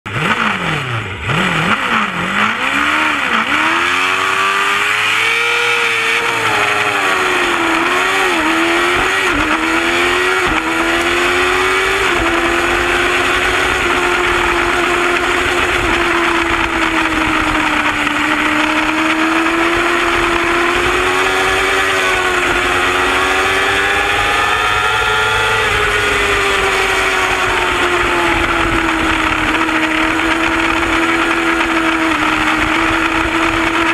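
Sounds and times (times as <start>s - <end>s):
racing motorcycle engine accelerating: 0.1s - 33.9s
wind noise: 2.6s - 33.9s.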